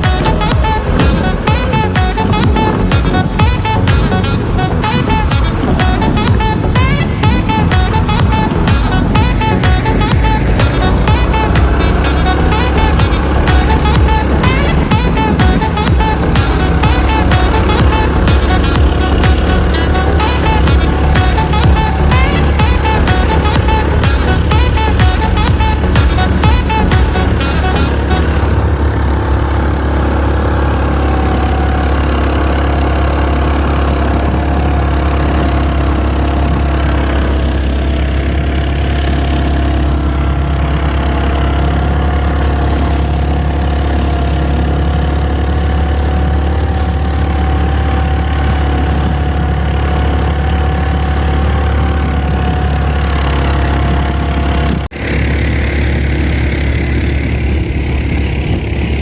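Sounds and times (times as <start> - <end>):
vehicle engine droning with whine: 0.0 - 59.0.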